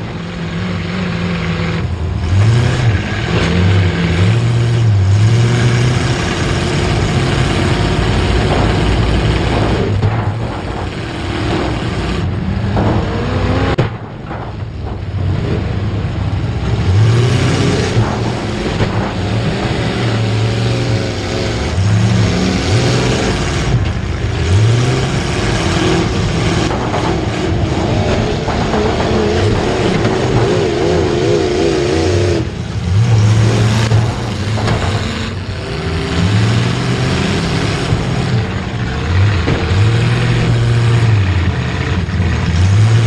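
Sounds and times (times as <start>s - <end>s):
racing engines accelerating: 0.0s - 43.0s.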